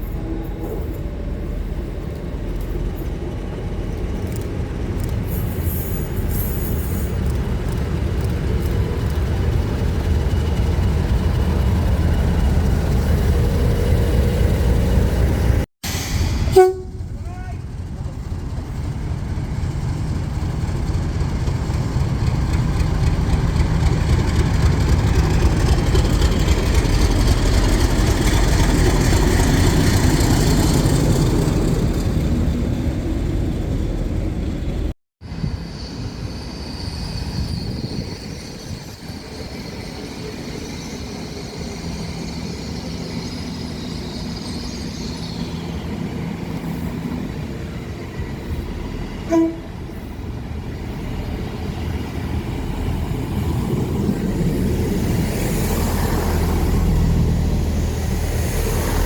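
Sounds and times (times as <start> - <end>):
high-pitched train whine: 0.0 - 59.0
train rumbling past: 0.0 - 59.0.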